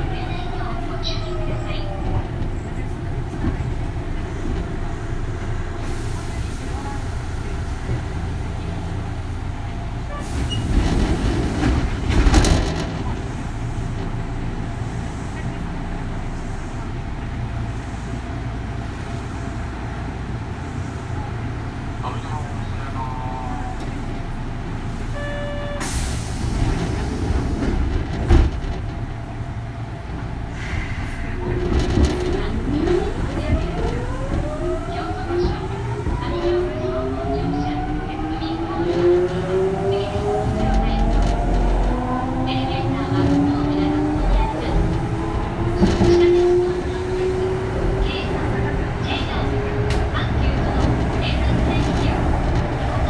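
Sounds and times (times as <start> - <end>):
train clattering: 0.0 - 21.1, 21.7 - 53.0
train wheels rumbling on rail: 0.0 - 53.0.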